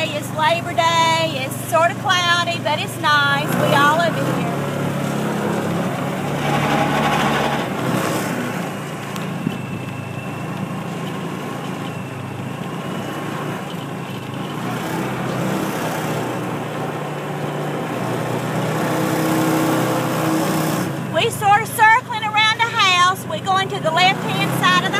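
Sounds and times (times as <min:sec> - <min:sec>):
small engine droning: 0:00.0 - 0:24.9.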